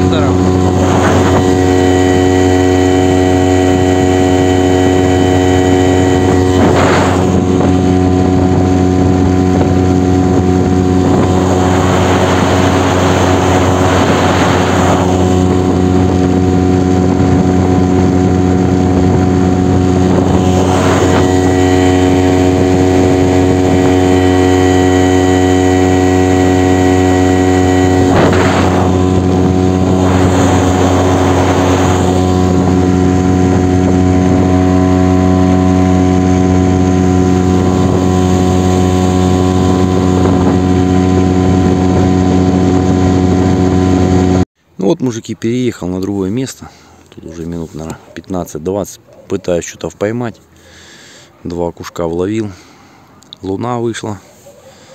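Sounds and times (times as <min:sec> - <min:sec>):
outboard motor running: 0:00.0 - 0:54.9.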